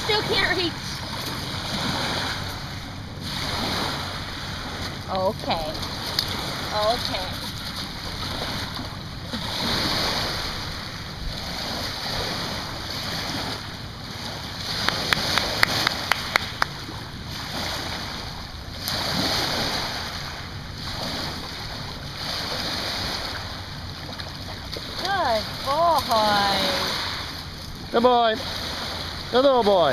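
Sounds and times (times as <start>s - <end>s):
waves washing on pebble beach: 0.0s - 8.7s, 9.4s - 23.6s, 24.3s - 29.9s.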